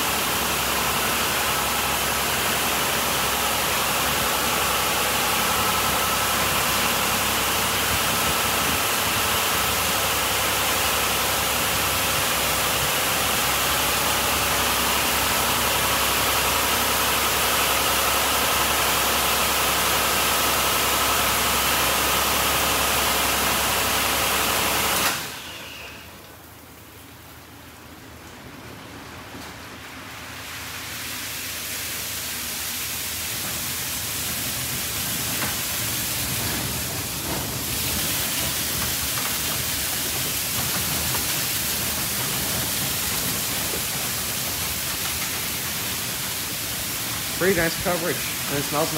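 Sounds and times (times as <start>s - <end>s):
car wash spraying and running: 0.0s - 48.9s.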